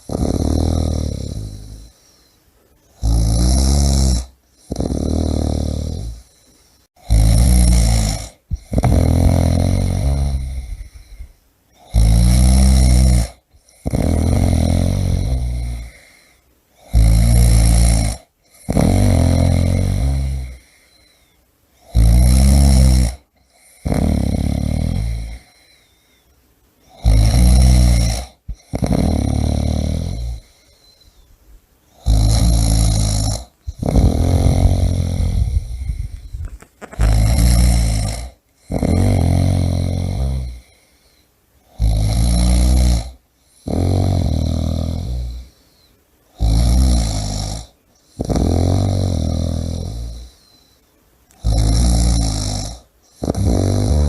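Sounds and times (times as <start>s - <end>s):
person snoring: 0.0s - 2.3s, 3.0s - 26.0s, 26.9s - 31.3s, 31.9s - 50.7s, 51.3s - 54.0s.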